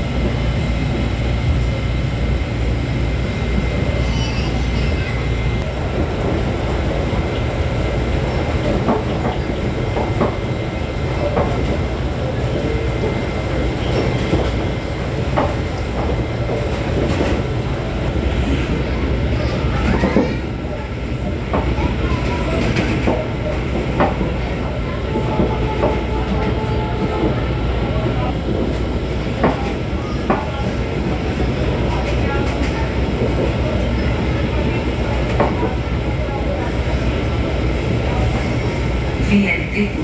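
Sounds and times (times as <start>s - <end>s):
railcar engine and wheels rumbling: 0.0s - 40.0s.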